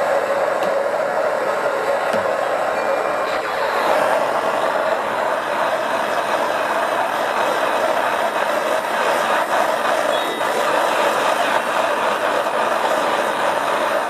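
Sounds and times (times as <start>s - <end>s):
propane torch flame rushing: 0.0s - 14.0s.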